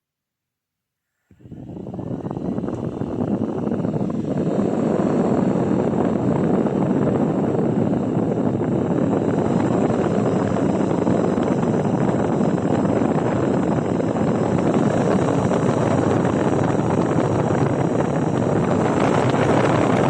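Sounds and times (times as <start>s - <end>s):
faint high motor whine: 1.3s - 20.0s
portable fan air rush: 1.3s - 20.0s.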